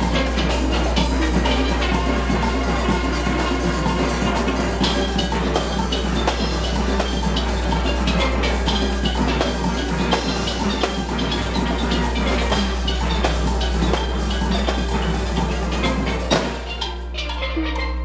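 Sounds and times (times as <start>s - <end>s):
drum and percussion rhythm: 0.0s - 18.0s
steel pans playing calypso: 0.0s - 18.0s.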